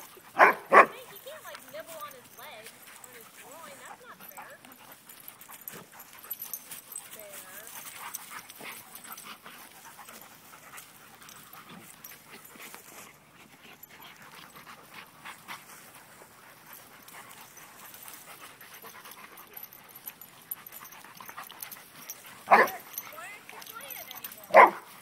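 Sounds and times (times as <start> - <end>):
dogs panting: 0.0 - 25.0
scuffling and rustling on grass: 0.0 - 25.0.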